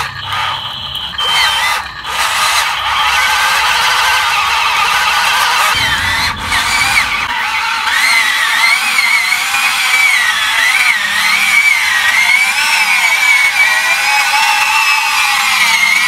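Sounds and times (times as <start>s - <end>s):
toy vehicle electric motor whining: 0.0s - 5.8s, 7.5s - 16.0s.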